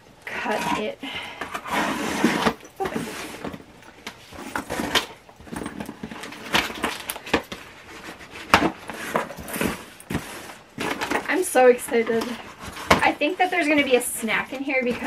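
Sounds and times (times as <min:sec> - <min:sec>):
cardboard scraping and rustling: 0:01.5 - 0:15.0.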